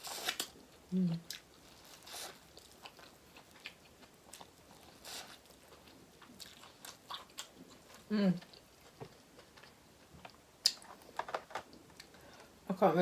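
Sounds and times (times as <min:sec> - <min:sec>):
person chewing food: 0:00.0 - 0:12.5.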